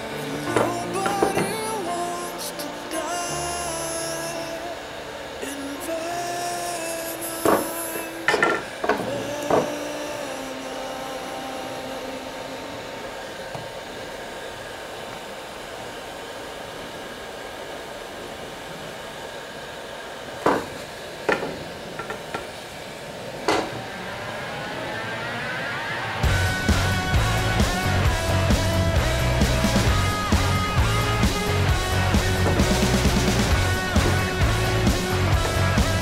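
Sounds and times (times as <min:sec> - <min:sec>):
heat gun blowing: 0:00.0 - 0:24.0, 0:26.2 - 0:36.0.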